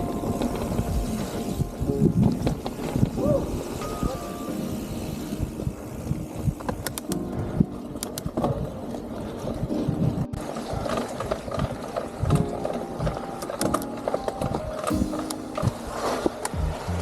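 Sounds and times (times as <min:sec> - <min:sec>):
mountain bike rattling over trail: 0:00.0 - 0:16.9.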